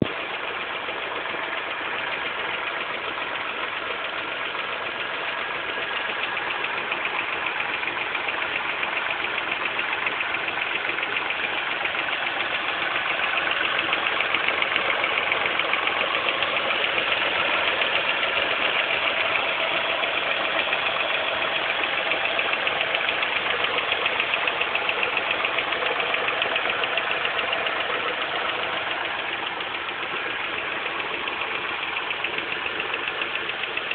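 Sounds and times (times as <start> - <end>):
car engine rhythmic chatter: 0.0 - 33.9.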